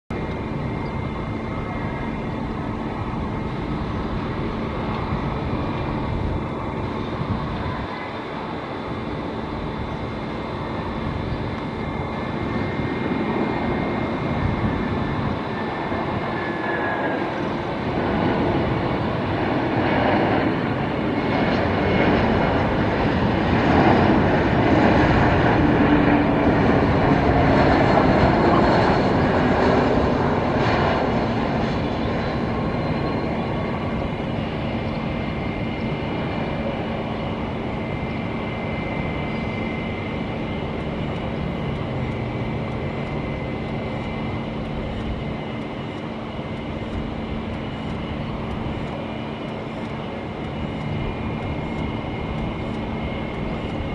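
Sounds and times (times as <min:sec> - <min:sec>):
jet airliner engines rumbling: 0:00.1 - 0:53.9.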